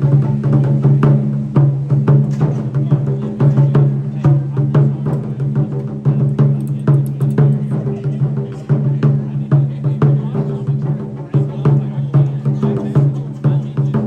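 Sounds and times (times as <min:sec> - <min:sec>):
taiko drums in fast rhythm: 0:00.0 - 0:14.0.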